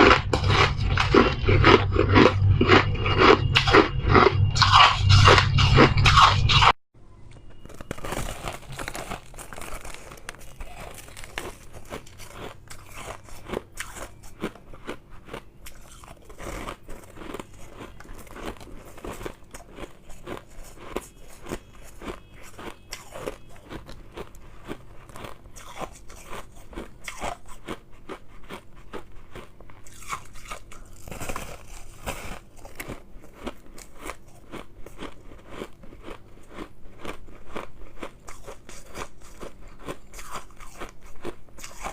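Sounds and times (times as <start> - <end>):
chewing crunchy ice: 0.0 - 6.8, 7.6 - 41.9.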